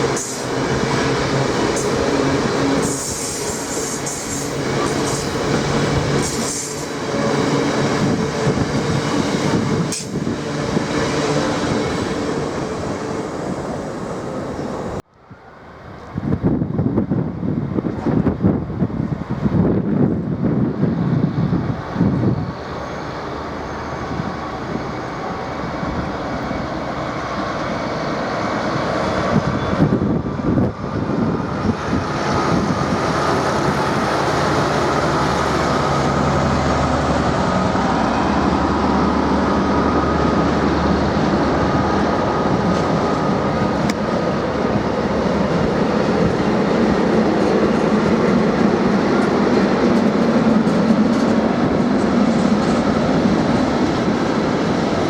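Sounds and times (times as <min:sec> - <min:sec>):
train running along track: 0:00.0 - 0:55.0.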